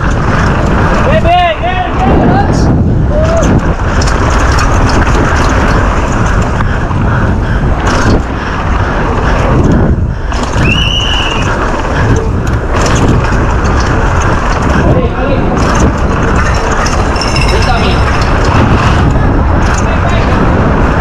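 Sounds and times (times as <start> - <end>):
mountain bike rattling over trail: 0.0 - 21.0
wind rush on microphone: 0.0 - 21.0.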